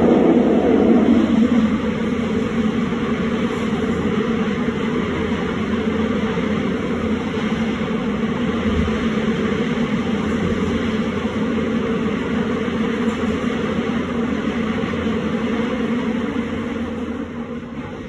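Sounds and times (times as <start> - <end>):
subway train wheels rumbling: 0.0 - 18.0.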